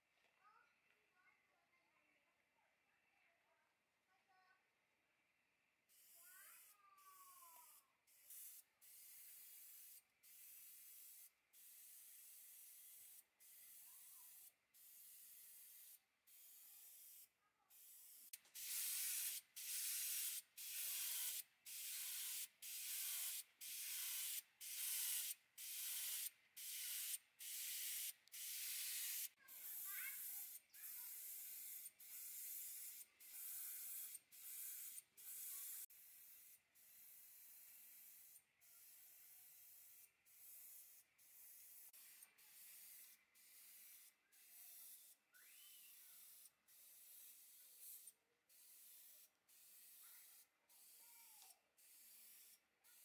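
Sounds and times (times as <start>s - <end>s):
spray paint hissing bursts: 5.9s - 53.0s.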